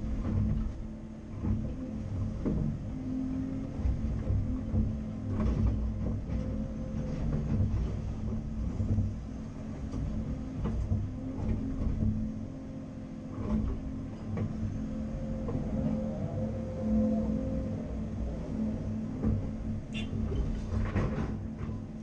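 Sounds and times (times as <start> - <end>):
excavator engine and hydraulics humming: 0.0 - 22.0.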